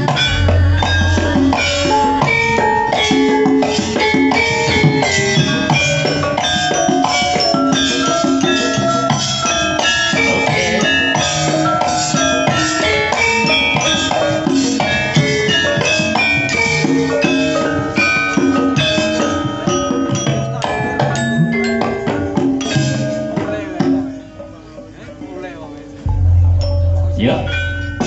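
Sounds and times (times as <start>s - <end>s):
hand drum strokes: 0.0s - 24.3s, 26.0s - 28.0s
metallophones and gongs ringing: 0.0s - 28.0s.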